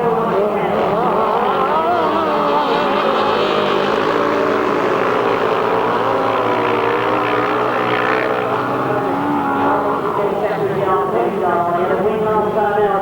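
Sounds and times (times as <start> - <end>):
motorcycle engines racing: 0.0 - 13.0.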